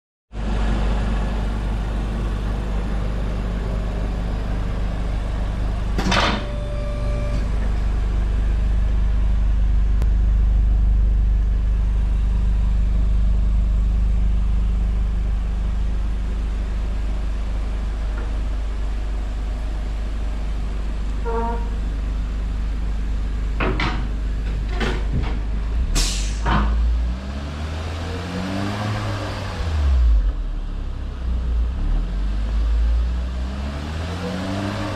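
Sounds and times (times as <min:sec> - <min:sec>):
car engine idling: 0:00.4 - 0:28.4.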